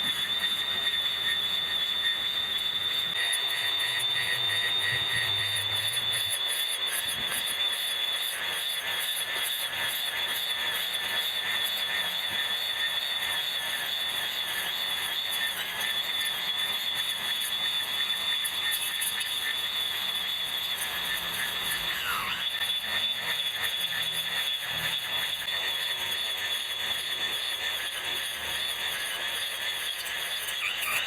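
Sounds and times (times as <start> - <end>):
electric grass cutter whining: 0.0 - 31.0.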